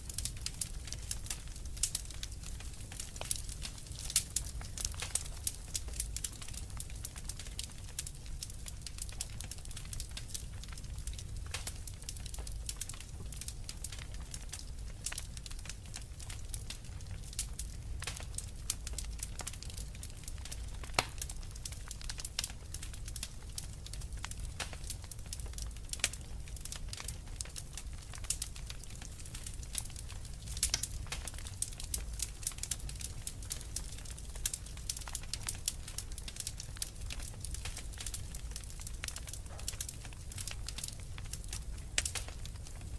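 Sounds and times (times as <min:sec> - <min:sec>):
fire crackling and popping: 0:00.0 - 0:42.9
low fire rumble: 0:00.0 - 0:42.9.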